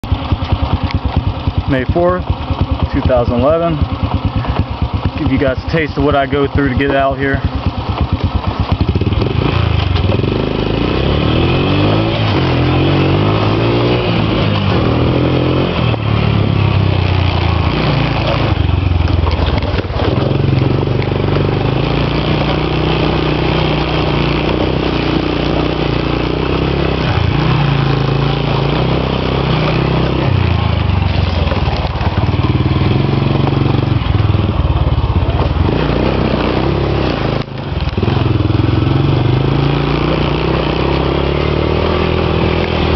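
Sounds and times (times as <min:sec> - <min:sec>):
motorbike engine revving: 0:00.0 - 0:42.9
rattling over rough ground: 0:00.0 - 0:42.9.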